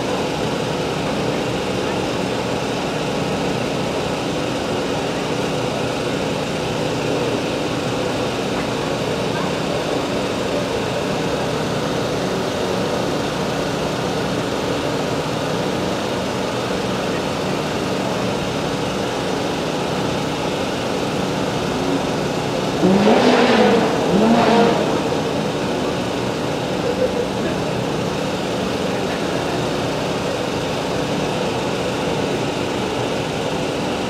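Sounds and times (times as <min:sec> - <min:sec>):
truck engine idling and revving: 0:00.0 - 0:34.0.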